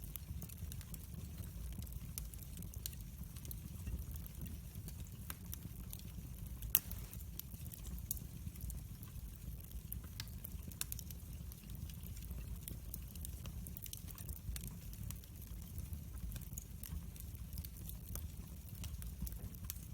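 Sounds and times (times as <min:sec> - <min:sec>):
campfire crackling: 0:00.0 - 0:19.9.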